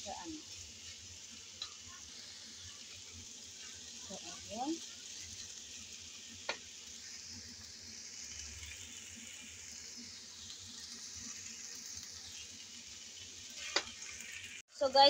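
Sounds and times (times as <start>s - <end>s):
noodles sizzling in a frying pan: 0.0s - 15.0s.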